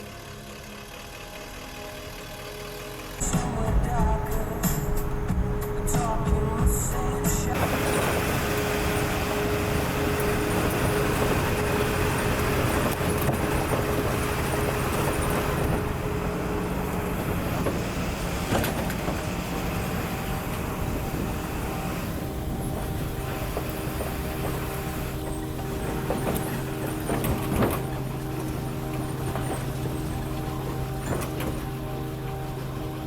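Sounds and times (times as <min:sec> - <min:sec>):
road noise: 0:00.0 - 0:33.0
vehicle engine hum: 0:00.0 - 0:33.0.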